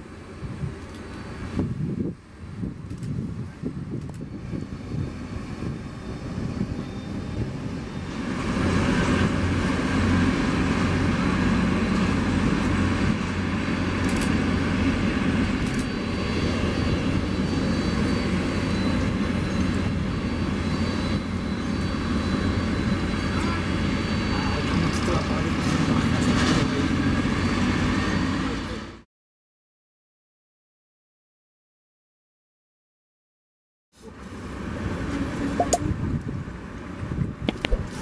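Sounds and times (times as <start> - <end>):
jet engines rumbling: 0.0 - 29.0, 34.0 - 38.0
faint high engine whine: 0.0 - 29.1, 34.0 - 38.0.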